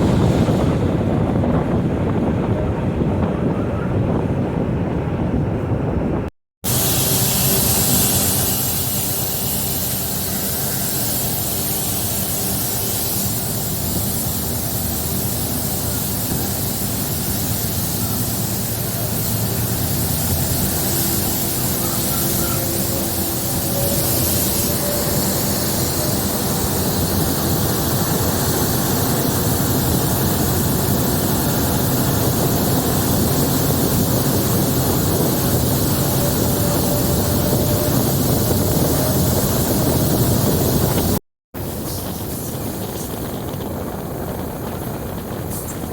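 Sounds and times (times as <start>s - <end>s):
rushing air and rail noise: 0.0s - 45.9s
train engine hum: 0.0s - 45.9s.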